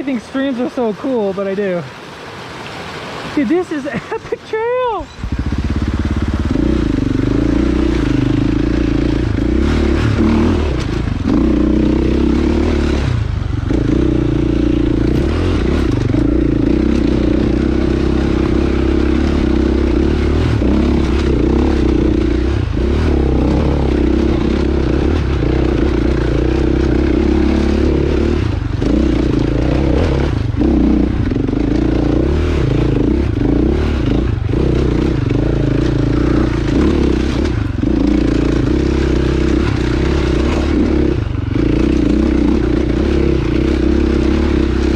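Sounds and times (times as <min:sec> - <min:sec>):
dirt bike engine running: 0:04.8 - 0:44.9.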